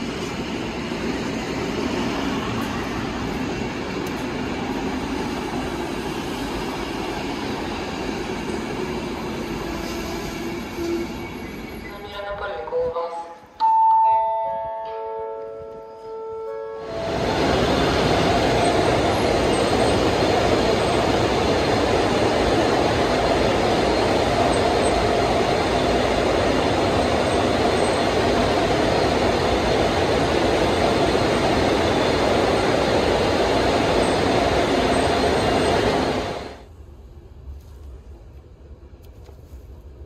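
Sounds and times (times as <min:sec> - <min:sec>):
train wheel and track noise: 0:00.0 - 0:40.0.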